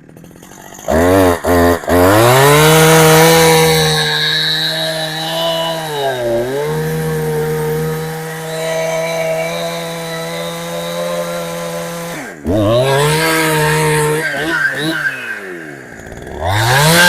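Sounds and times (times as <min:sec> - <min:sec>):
chainsaw at high revs: 0:00.0 - 0:17.0.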